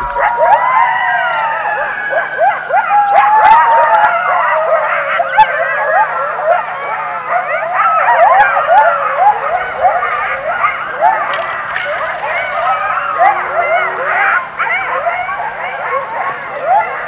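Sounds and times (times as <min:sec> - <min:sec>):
coyotes howling and yipping: 0:00.0 - 0:17.0.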